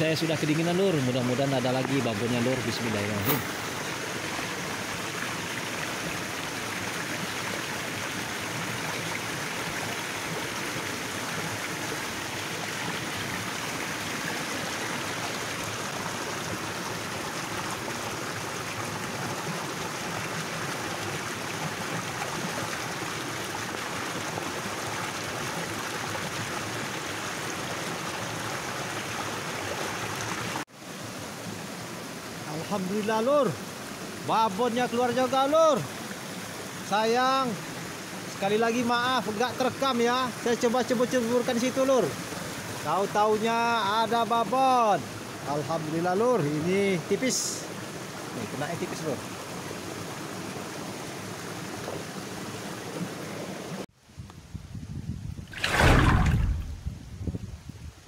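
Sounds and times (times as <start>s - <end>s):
river rushing over stones: 0.0s - 53.9s, 55.5s - 56.9s.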